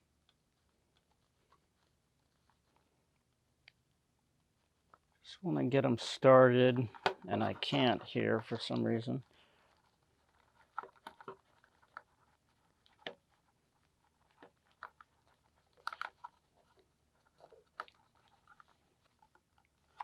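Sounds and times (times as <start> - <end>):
earpad clicking and crinkling: 0.0 - 4.0, 6.2 - 20.0.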